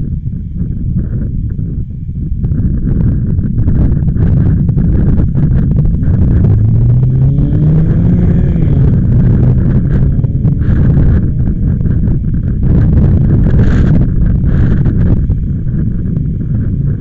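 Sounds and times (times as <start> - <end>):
vehicle engine hum: 0.0 - 17.0
wind buffeting microphone: 0.0 - 17.0.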